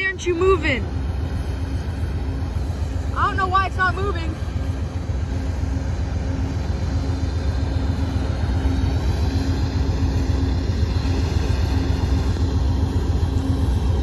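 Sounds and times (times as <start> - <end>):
locomotive idling rumble: 0.0 - 14.0.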